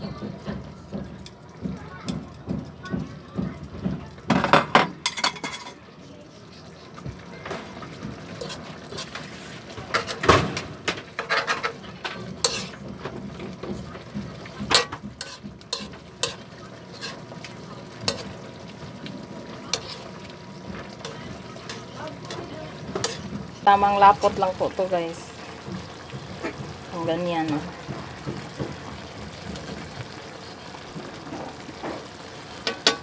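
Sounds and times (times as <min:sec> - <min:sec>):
simmering sizzle: 0:00.0 - 0:33.0
utensil scraping a wok: 0:06.5 - 0:33.0.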